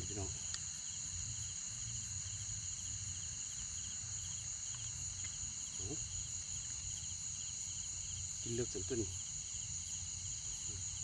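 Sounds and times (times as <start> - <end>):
insects chirping and trilling: 0.0 - 11.0.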